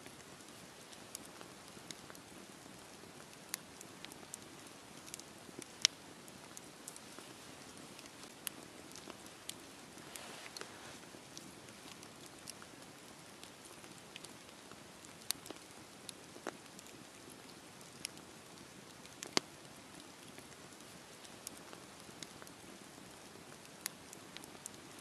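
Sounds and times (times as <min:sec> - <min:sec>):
campfire flames hissing: 0:00.0 - 0:25.0
crackles and pops from logs: 0:00.0 - 0:25.0.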